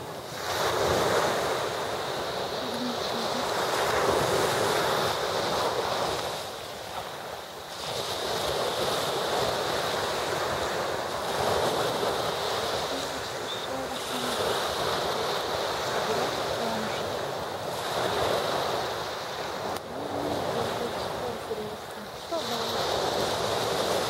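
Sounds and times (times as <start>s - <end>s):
sea waves washing: 0.0s - 24.0s.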